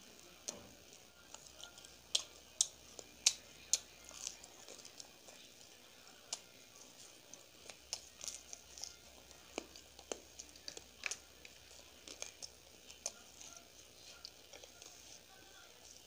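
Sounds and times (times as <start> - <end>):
crunchy chewing of fried dough: 0.0 - 16.0.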